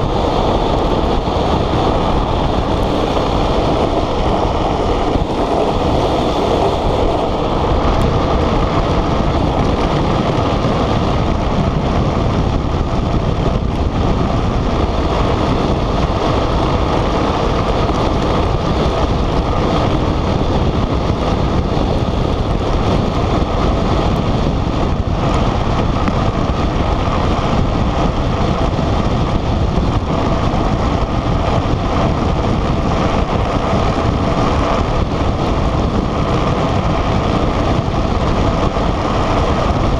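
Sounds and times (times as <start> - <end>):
wheels rolling on rough asphalt: 0.0 - 39.9
wind buffeting microphone: 0.0 - 39.9.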